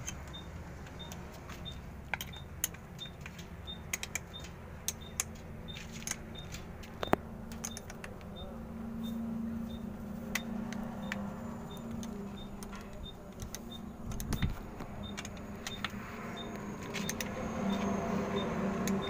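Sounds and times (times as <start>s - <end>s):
metal tool clicking on battery terminals: 0.0s - 8.5s, 9.7s - 19.0s
steady low hum: 0.0s - 19.0s.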